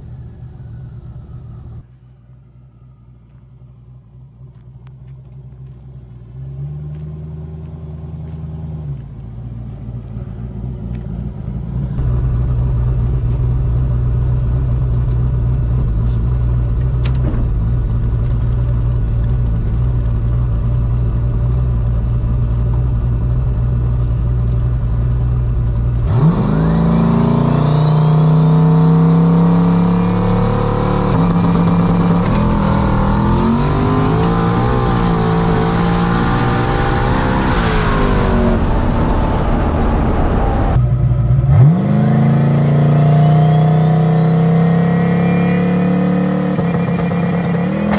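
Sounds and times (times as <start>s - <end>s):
turbo whine: 0.0s - 6.5s, 9.9s - 47.9s
car engine revving: 3.7s - 47.9s.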